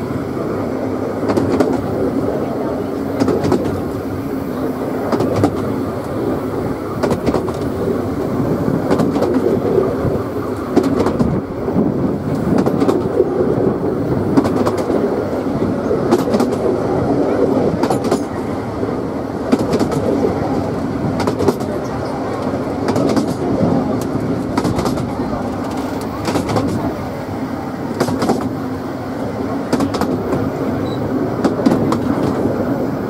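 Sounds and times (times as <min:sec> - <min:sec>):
train wheels rumbling on track: 0:00.0 - 0:33.0
wheels clicking over rail joints: 0:01.1 - 0:18.6, 0:19.4 - 0:28.7, 0:29.4 - 0:32.6.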